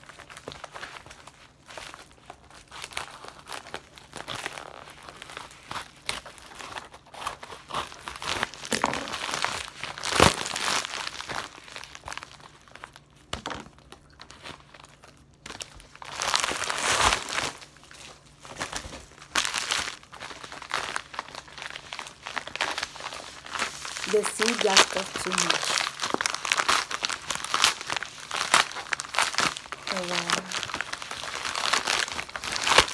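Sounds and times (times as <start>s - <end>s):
plastic bag crinkling: 0.0s - 32.9s.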